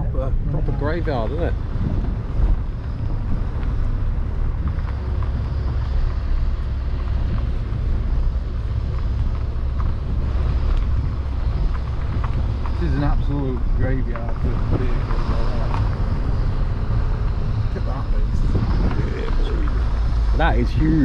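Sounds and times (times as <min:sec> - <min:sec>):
car engine and tyres humming: 0:00.0 - 0:21.0.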